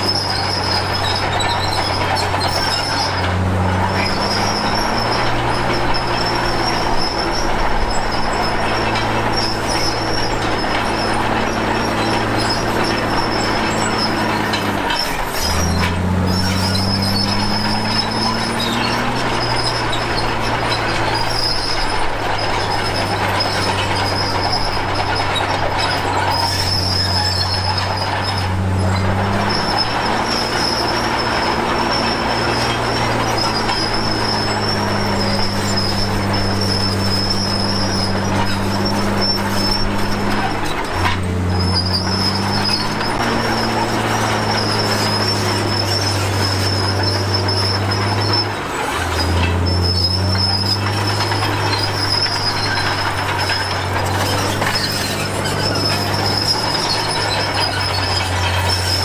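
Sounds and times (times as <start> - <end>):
diesel engine under load: 0.0 - 59.0
steel tracks squealing and clanking: 0.0 - 59.0.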